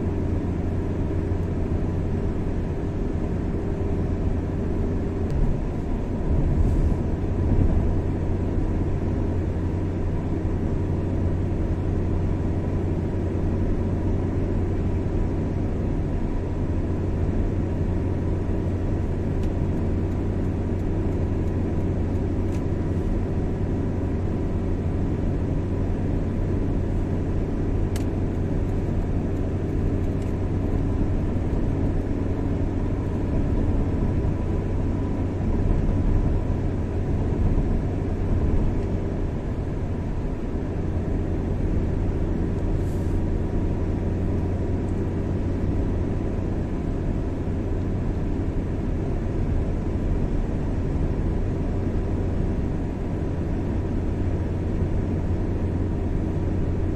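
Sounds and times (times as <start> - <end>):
car driving on highway: 0.0 - 56.9.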